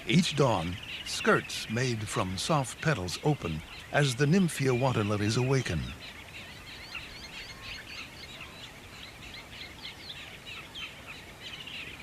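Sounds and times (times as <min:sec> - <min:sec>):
faint steady background noise: 0:00.0 - 0:12.0
many birds chirping: 0:00.0 - 0:12.0.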